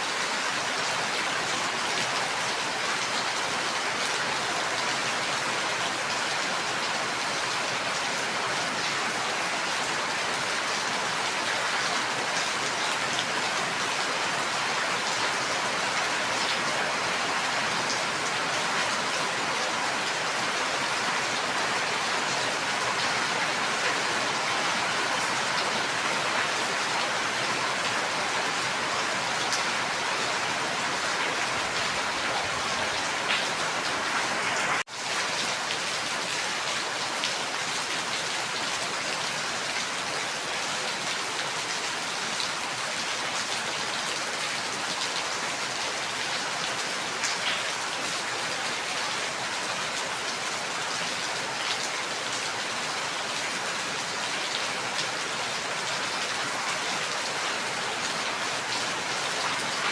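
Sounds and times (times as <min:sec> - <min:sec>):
dense rain falling: 0:00.0 - 0:59.9.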